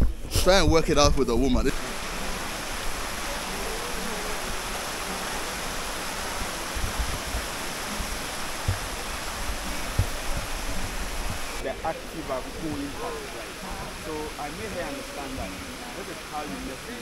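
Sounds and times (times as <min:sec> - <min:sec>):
water rushing over rocks: 0:00.1 - 0:17.0.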